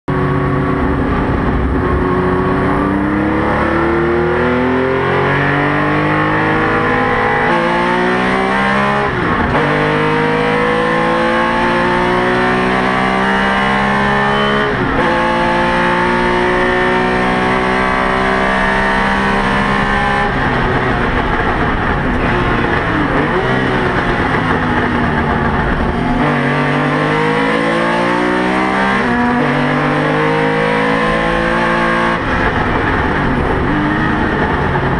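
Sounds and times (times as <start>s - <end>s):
racing engine at full throttle: 0.1s - 34.9s.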